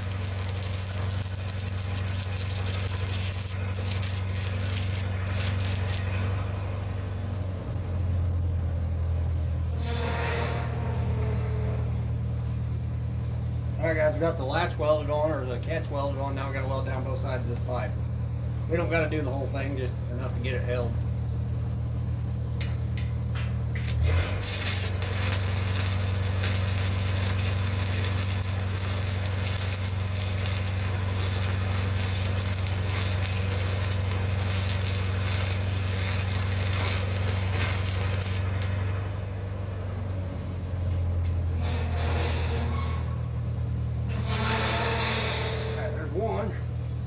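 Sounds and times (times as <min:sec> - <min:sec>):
arc welding crackling sizzle: 0:00.0 - 0:07.6, 0:09.7 - 0:15.0, 0:20.2 - 0:39.9, 0:41.0 - 0:46.6
low engine hum: 0:00.0 - 0:09.8, 0:10.7 - 0:41.7, 0:42.6 - 0:44.3.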